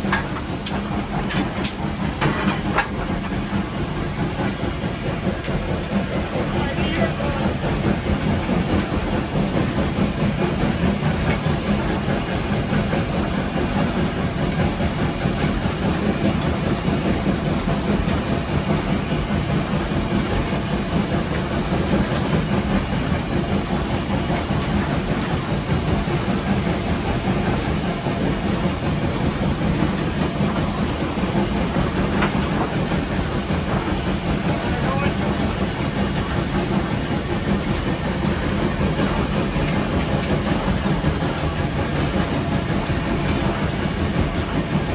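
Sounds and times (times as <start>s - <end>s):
steam hiss: 0.0s - 44.9s
steam locomotive cab rumble: 0.0s - 44.9s.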